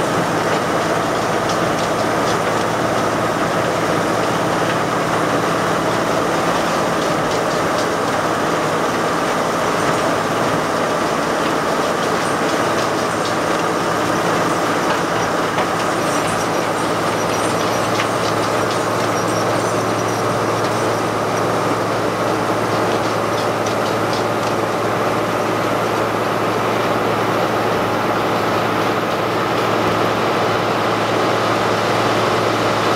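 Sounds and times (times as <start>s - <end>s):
grinder engine running: 0.0s - 32.9s.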